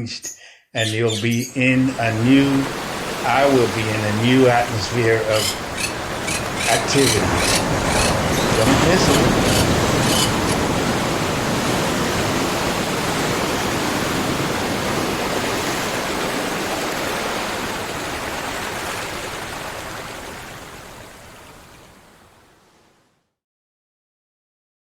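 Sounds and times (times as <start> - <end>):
rushing water: 1.5 - 22.9.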